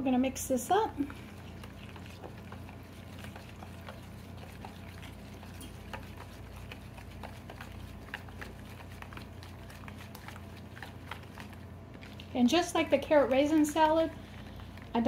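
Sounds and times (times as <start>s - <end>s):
spoon stirring thick dressing: 0.0s - 15.0s
steady low hum: 0.0s - 15.0s.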